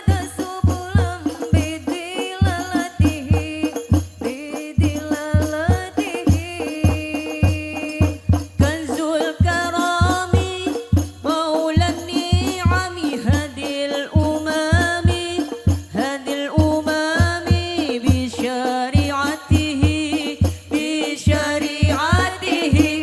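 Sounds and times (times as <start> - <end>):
frame drums and deep drum: 0.0 - 23.0.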